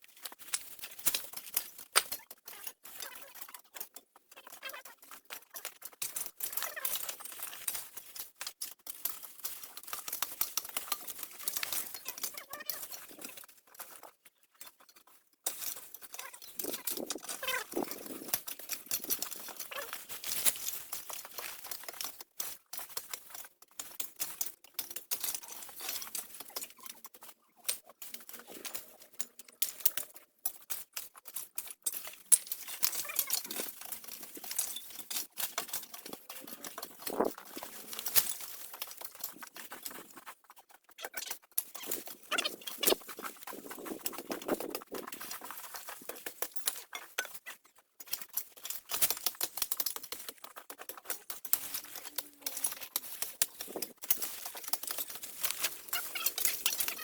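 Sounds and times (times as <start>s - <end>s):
debris rustling and scraping: 0.0s - 57.0s.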